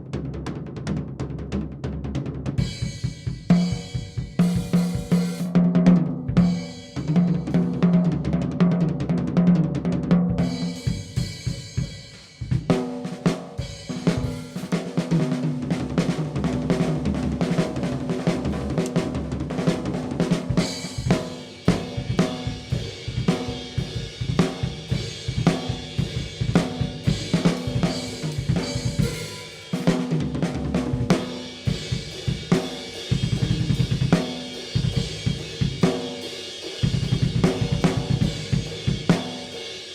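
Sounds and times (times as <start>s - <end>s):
drum fill with deep ringing drums: 0.0s - 39.9s
drum groove of kick snare hi-hat: 0.0s - 39.9s.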